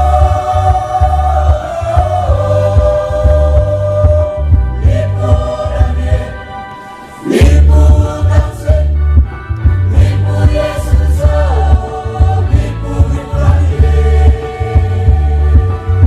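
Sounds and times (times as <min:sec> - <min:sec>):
choir singing in harmony: 0:00.0 - 0:09.2, 0:09.8 - 0:16.0.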